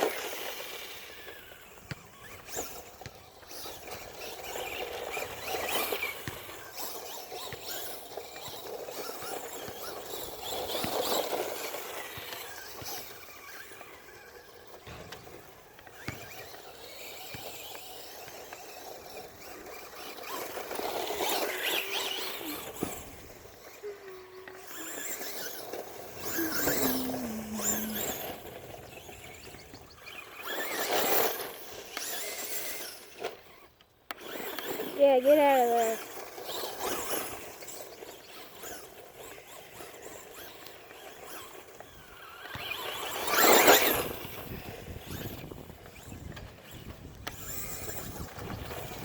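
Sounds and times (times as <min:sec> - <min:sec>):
toy car motor whine: 0:00.0 - 0:49.0.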